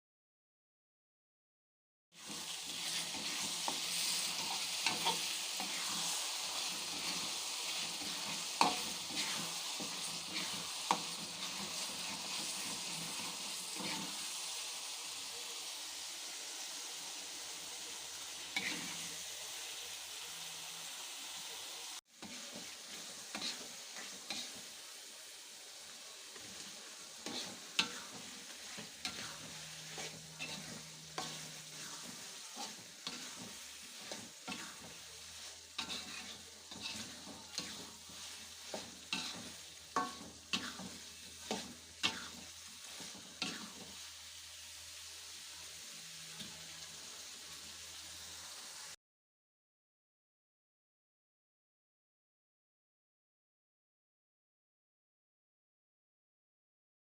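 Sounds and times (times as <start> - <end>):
food sizzling in a pan: 2.1 - 49.0.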